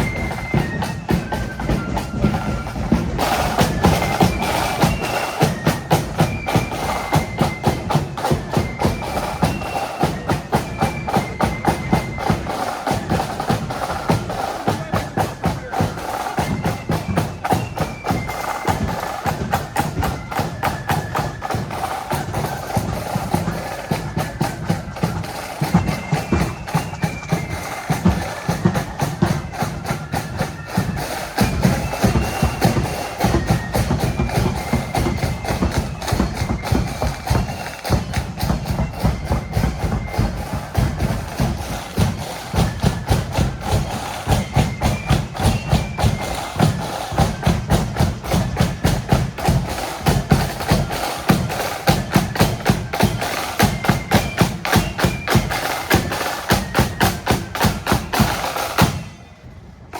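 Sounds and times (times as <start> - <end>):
rapid snare drum strokes: 0.0 - 59.2
flutes playing march melody: 0.0 - 59.9.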